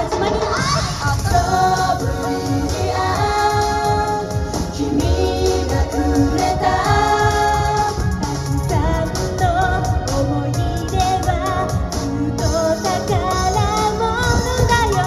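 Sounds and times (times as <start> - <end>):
pop backing track: 0.0 - 15.0
women singing together: 1.1 - 15.0.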